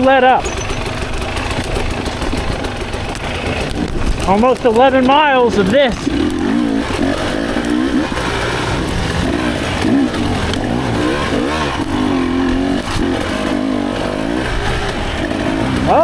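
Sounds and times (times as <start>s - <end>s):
dirt bike engine revving: 0.0s - 16.0s
rough rushing noise: 0.0s - 16.0s.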